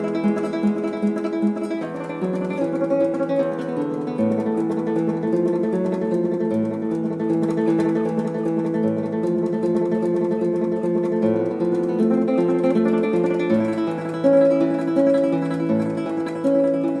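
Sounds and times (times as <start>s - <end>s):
acoustic guitar picked: 0.0s - 17.0s.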